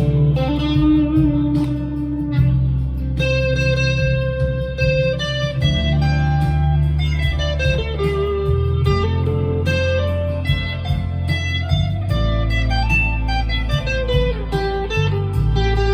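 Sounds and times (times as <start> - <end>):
backing track music: 0.0 - 15.9
electric guitar lead line: 0.0 - 15.9.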